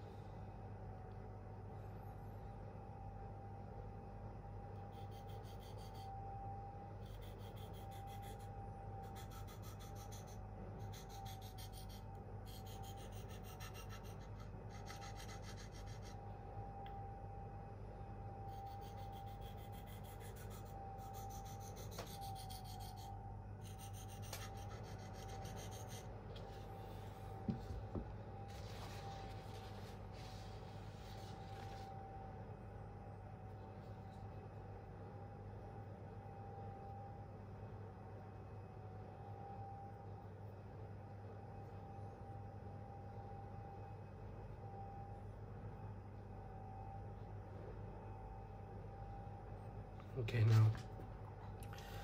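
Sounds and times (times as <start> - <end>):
faint steady whine: 0.0 - 52.0.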